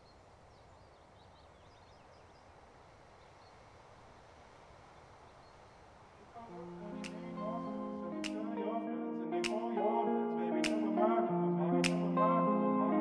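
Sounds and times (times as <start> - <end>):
faint background hiss: 0.0 - 12.2.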